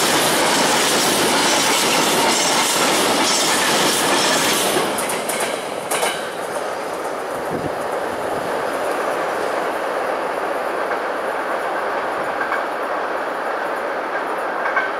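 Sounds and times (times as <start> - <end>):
train wheels on rails: 0.0 - 14.9.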